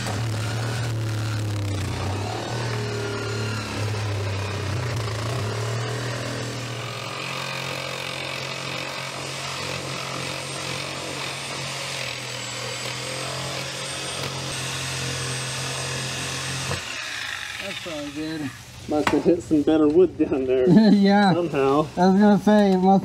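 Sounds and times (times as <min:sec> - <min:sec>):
reciprocating saw cutting wood: 0:00.0 - 0:19.8.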